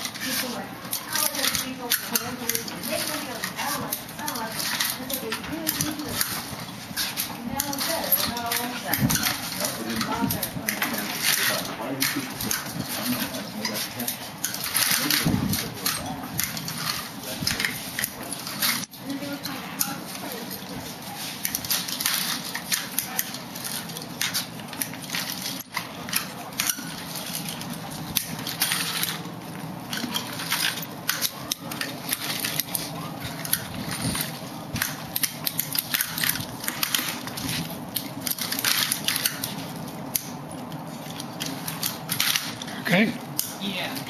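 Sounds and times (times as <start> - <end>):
walker scraping along concrete: 0.0 - 44.0.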